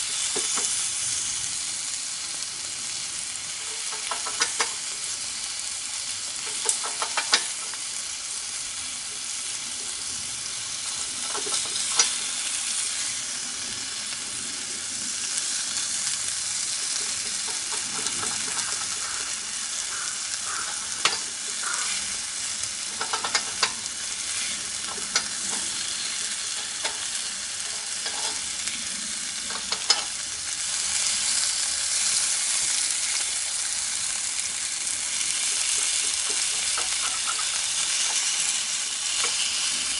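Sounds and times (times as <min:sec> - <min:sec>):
meat sizzling on a grill: 0:00.0 - 0:39.9.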